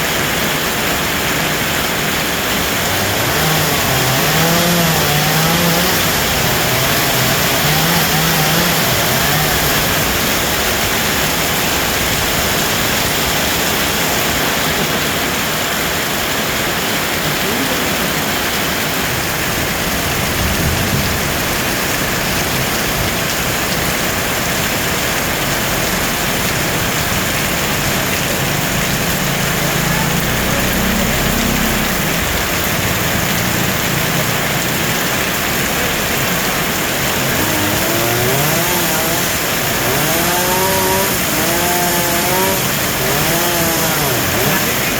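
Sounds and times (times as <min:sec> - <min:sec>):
chainsaw engine revving: 0:01.2 - 0:44.9.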